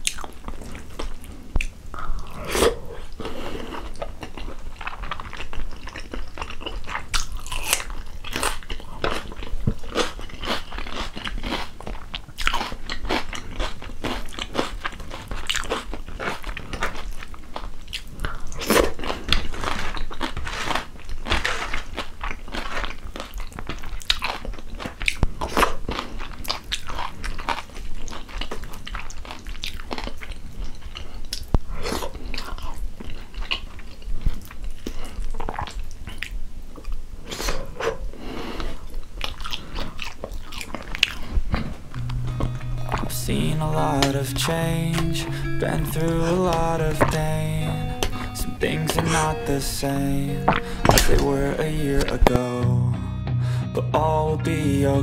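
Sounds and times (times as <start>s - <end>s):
chewing food: 0.0s - 52.4s.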